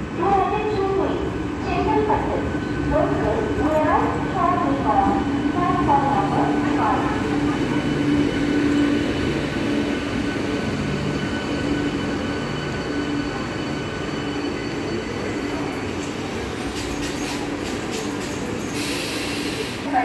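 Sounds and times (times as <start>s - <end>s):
electric train hum: 0.0s - 20.0s
train wheels rumbling: 0.0s - 20.0s.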